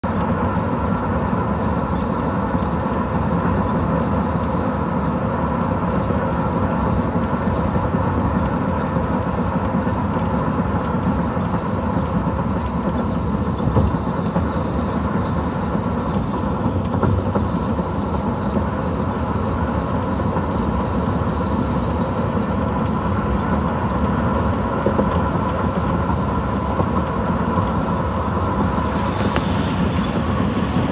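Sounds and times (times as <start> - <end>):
car road and wind noise: 0.0 - 30.9.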